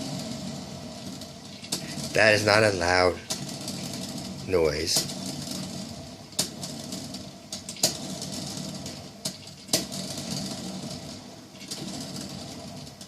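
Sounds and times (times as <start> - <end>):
electric percolator bubbling: 0.0 - 13.0.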